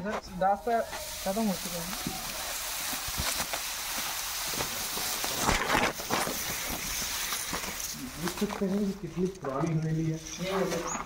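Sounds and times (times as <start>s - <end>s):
tall grass rustling: 0.0s - 11.0s.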